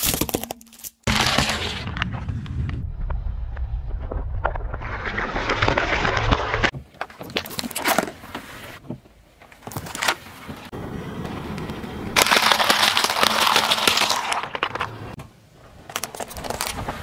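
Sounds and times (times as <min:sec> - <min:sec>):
car tyre crushing objects: 0:00.0 - 0:02.7, 0:04.0 - 0:17.0.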